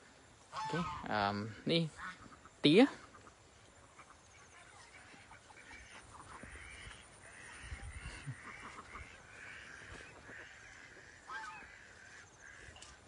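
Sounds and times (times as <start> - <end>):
ducks quacking: 0.5 - 13.0.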